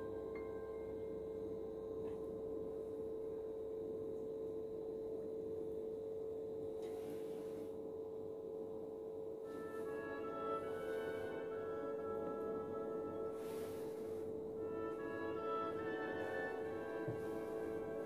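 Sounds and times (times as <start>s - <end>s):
ambient drone music: 0.0s - 18.0s.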